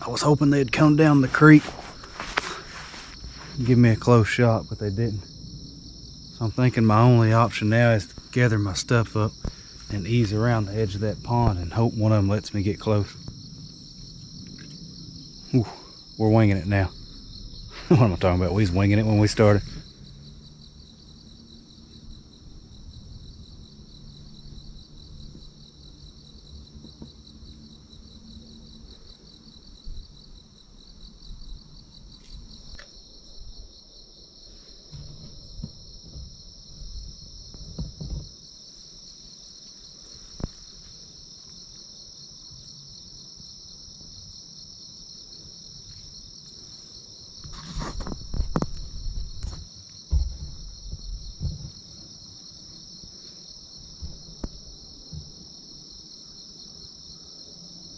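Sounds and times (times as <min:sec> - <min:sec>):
insects trilling: 0:00.0 - 0:57.9.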